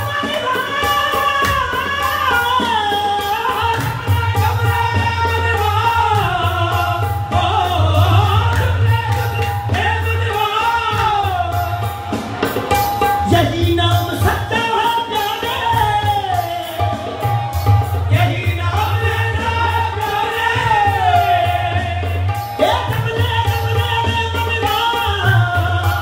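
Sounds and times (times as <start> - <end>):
harmonium: 0.0 - 26.0
percussion beating rhythm: 0.0 - 26.0.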